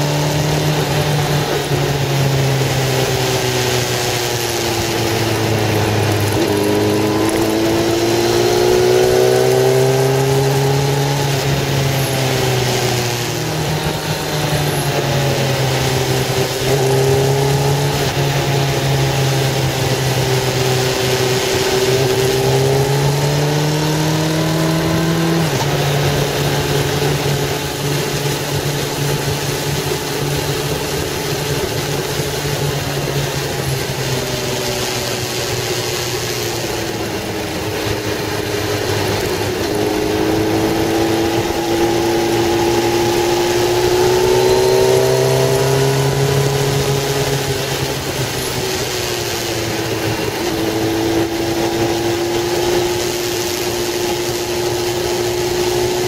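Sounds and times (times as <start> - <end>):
car engine accelerating: 0.0 - 56.0
road noise: 0.0 - 56.0.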